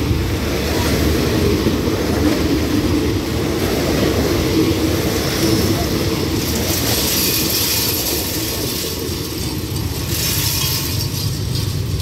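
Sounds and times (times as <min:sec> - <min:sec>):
train coaches rolling past: 0:00.0 - 0:12.0.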